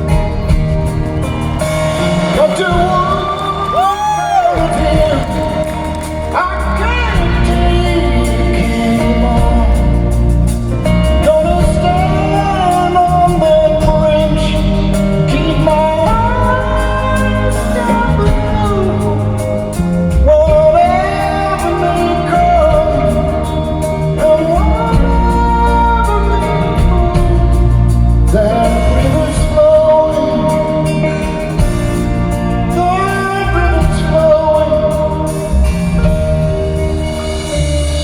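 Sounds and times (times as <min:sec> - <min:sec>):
live rock band playing: 0:00.0 - 0:38.0
person singing: 0:00.0 - 0:38.0.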